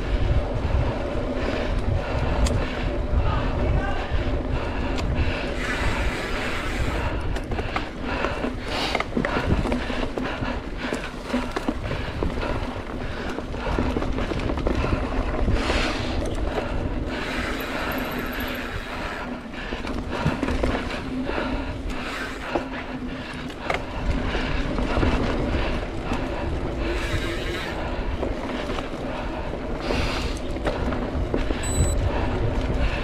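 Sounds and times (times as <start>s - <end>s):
wind on microphone: 0.0s - 21.9s, 23.8s - 33.0s
mountain bike rumbling and rattling: 0.0s - 33.0s.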